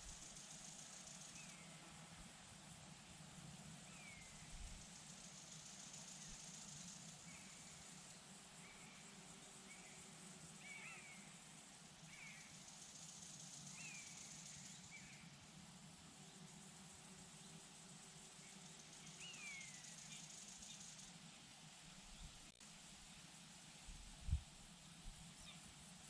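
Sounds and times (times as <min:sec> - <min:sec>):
soft steady hiss: 0:00.0 - 0:26.0.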